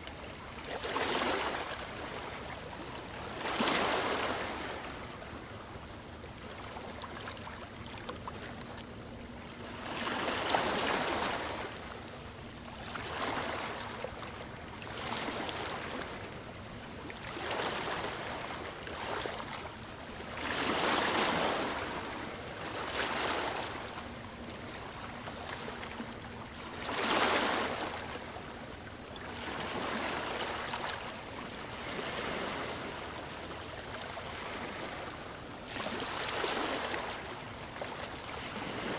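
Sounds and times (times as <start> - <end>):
small waves breaking on shore: 0.0 - 38.9.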